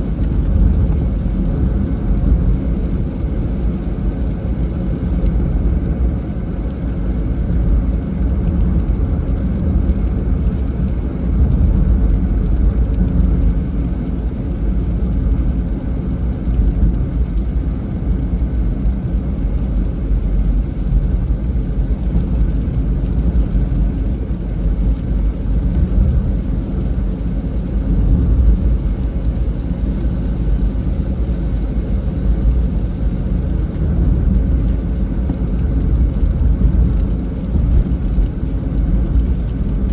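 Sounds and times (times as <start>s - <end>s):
vehicle driving on wet road: 0.0s - 39.9s.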